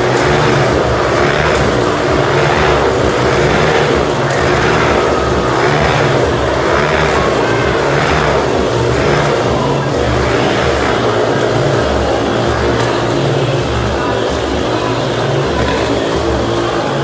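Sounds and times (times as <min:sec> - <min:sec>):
motorcycle engines running hard: 0:00.0 - 0:17.0.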